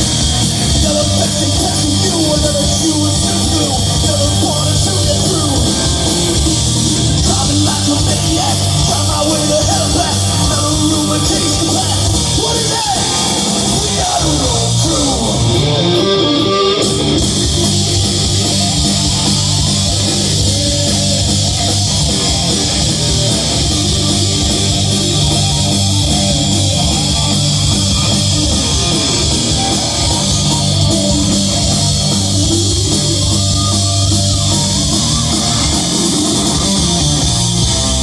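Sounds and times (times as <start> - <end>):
bass guitar: 0.0 - 38.0
distorted electric guitar: 0.0 - 38.0
driving drum kit: 0.0 - 38.0.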